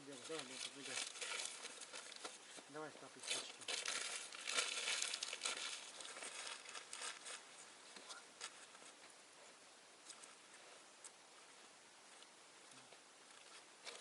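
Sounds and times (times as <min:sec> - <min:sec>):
crinkly rustling of dry material: 0:00.0 - 0:14.0.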